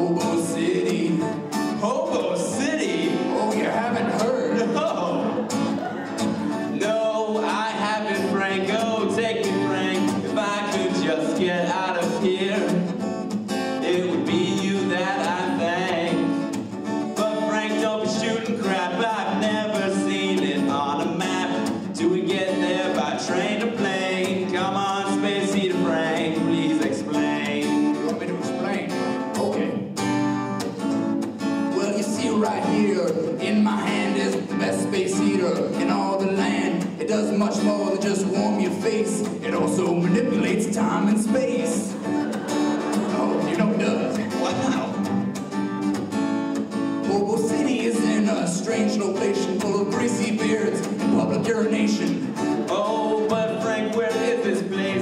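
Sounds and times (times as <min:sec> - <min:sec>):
man singing: 0:00.0 - 0:29.9, 0:31.6 - 0:45.2, 0:46.9 - 0:55.0
acoustic guitar strumming: 0:00.0 - 0:55.0.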